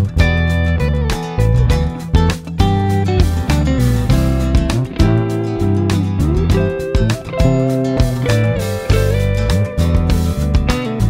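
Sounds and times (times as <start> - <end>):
guitar-led music with steady beat: 0.0 - 11.0.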